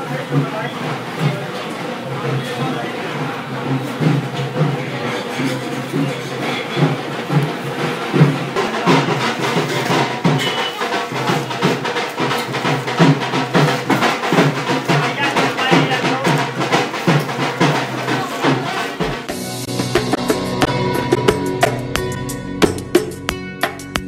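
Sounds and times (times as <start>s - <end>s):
music with steady drumbeat: 0.0s - 24.0s.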